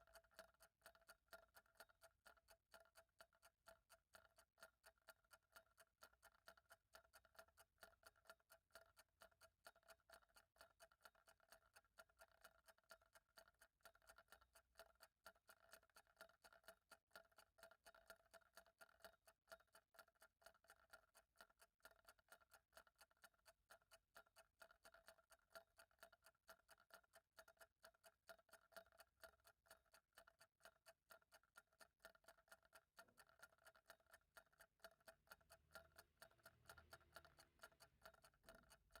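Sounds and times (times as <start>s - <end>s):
clock ticking: 0.0s - 39.0s.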